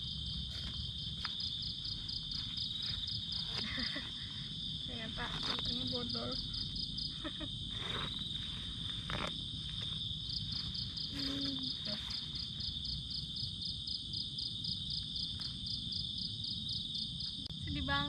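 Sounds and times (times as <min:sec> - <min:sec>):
insect chirping in pulses: 0:00.0 - 0:18.0
insect high trill: 0:00.0 - 0:18.0.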